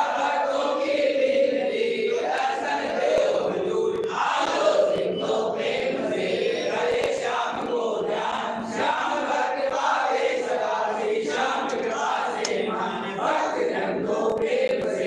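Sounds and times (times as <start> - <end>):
group chanting together: 0.0 - 15.0.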